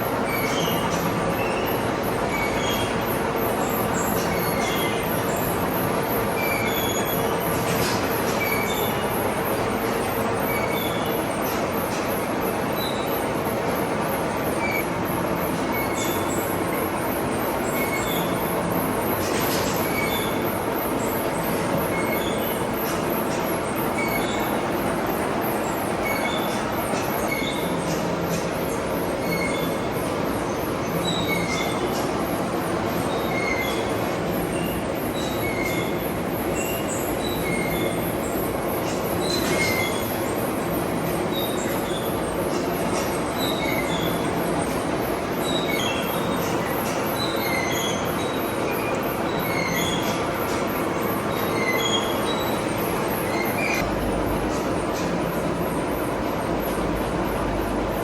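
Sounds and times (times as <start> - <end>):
workshop machine noise: 0.0 - 58.0.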